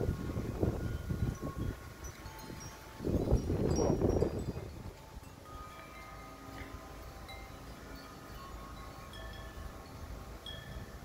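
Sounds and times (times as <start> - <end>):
metal wind chimes ringing: 0.0 - 11.0.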